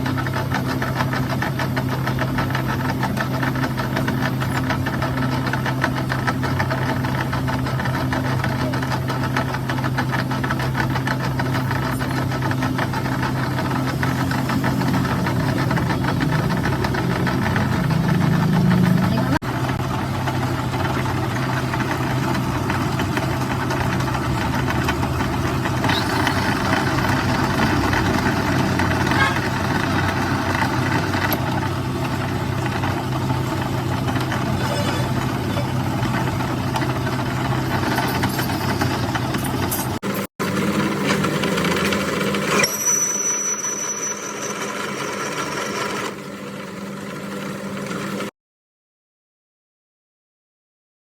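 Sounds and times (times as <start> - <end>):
workshop machine humming and rattling: 0.0 - 48.3.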